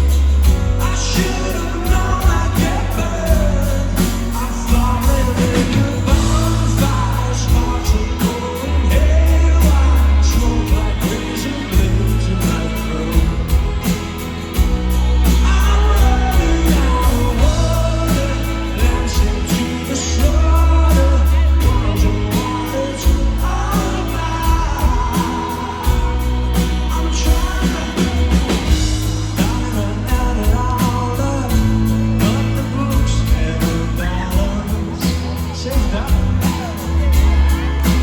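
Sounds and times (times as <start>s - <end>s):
live rock band playing: 0.0s - 38.0s
person singing lead vocal: 0.0s - 38.0s.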